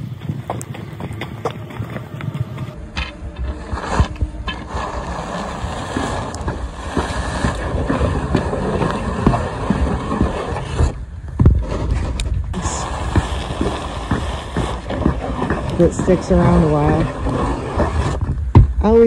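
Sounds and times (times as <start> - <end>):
push broom scraping pavement: 1.5 - 18.3.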